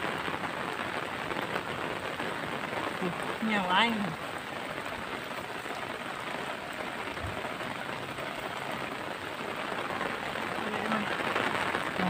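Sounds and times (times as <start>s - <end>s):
light rain falling: 0.0s - 12.0s.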